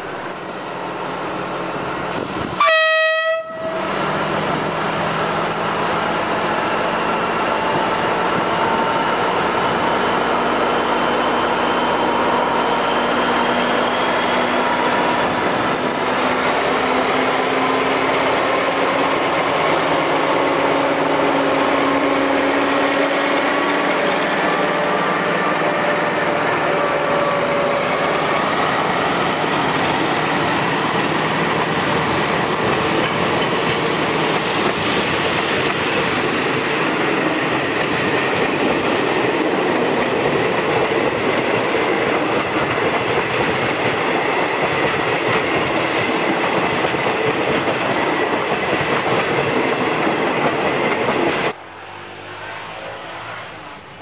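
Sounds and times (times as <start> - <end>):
train carriages rolling on rails: 3.4 - 54.0.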